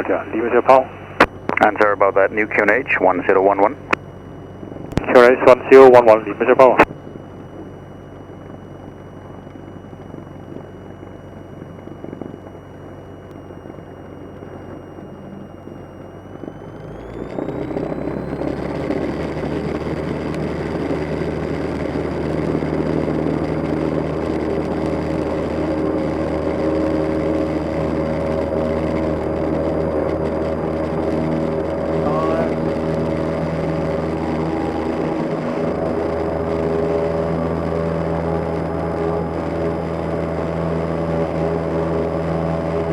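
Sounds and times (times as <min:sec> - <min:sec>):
small plane engine revving up: 0:03.8 - 0:42.9.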